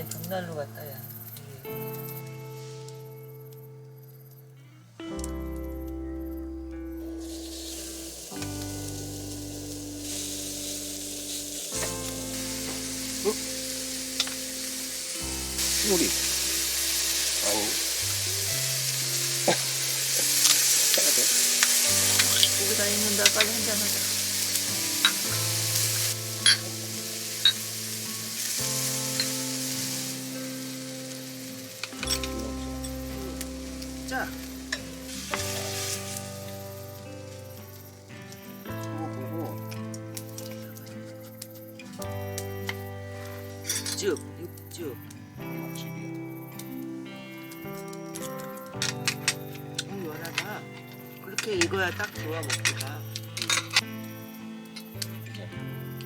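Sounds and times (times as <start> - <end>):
background music: 0.0 - 56.0
meat sizzling in a pan: 5.2 - 56.0.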